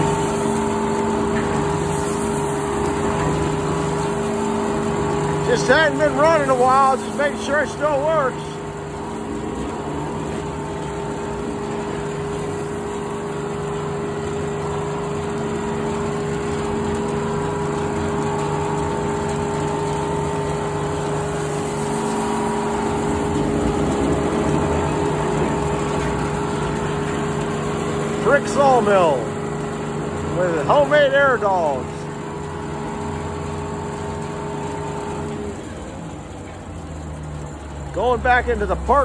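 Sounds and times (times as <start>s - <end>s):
circular saw blade spinning: 0.0s - 36.0s
engine droning: 0.0s - 39.0s.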